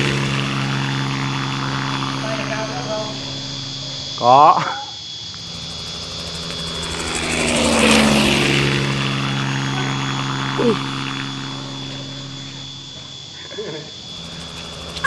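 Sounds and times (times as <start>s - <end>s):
rotor whoosh: 0.0s - 4.2s, 5.4s - 13.2s
toy helicopter motor and rotor hum: 0.0s - 4.3s, 5.3s - 15.0s.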